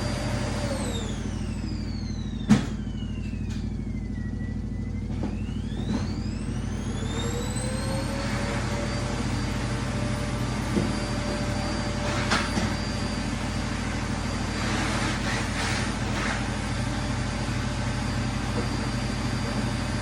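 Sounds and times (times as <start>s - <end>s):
vacuum cleaner motor running: 0.0s - 20.0s.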